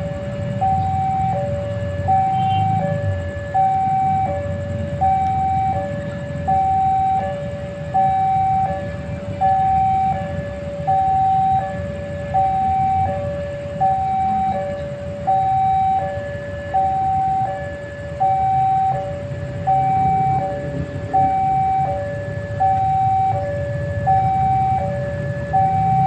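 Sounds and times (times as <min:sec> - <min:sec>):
level crossing two-tone alarm: 0:00.0 - 0:26.0
low traffic rumble: 0:00.0 - 0:26.0.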